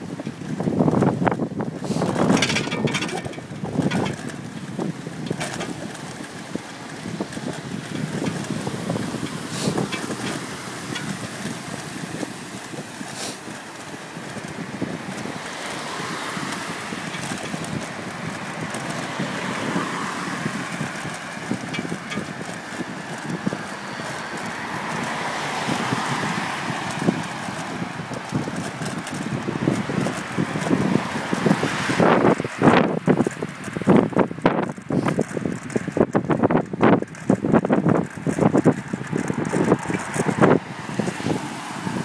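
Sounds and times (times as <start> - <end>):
road traffic passing: 0.0 - 42.0
wind buffeting microphone: 0.0 - 42.0.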